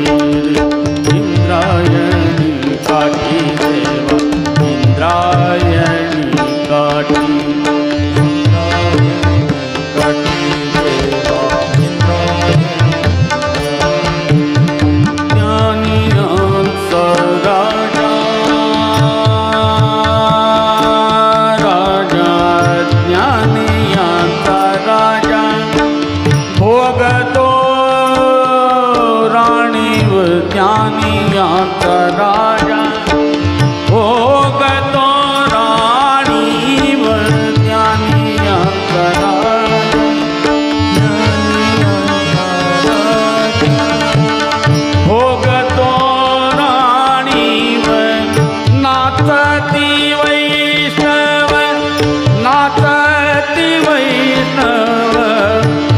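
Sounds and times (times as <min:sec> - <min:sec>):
harmonium melody: 0:00.0 - 0:55.9
man singing: 0:00.0 - 0:55.9
tabla strokes: 0:00.0 - 0:55.9
tanpura drone: 0:00.0 - 0:55.9.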